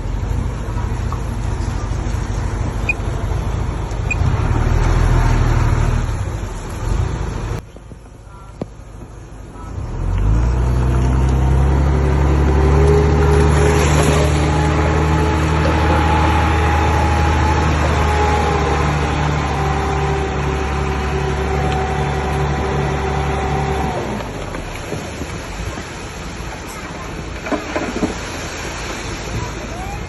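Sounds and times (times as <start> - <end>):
diesel machinery engine running: 0.0 - 30.0.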